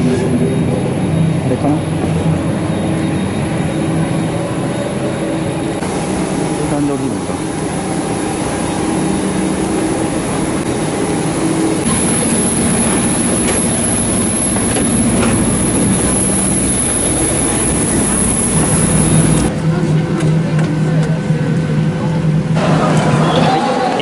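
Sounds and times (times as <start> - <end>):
jet aircraft noise: 0.0 - 24.0.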